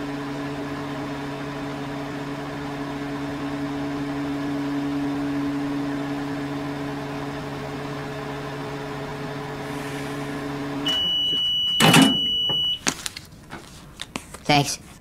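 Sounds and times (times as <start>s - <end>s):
microwave oven humming: 0.0s - 13.6s.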